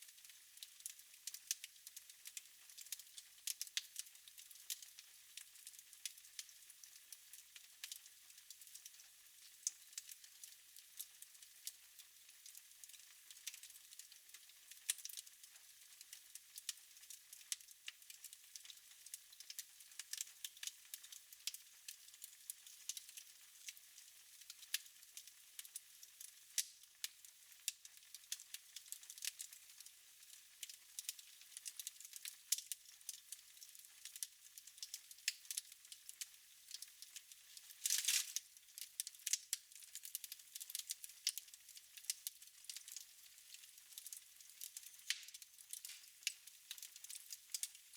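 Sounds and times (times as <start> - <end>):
wood fire crackling: 0.2 - 6.7, 7.3 - 11.8, 12.4 - 47.9.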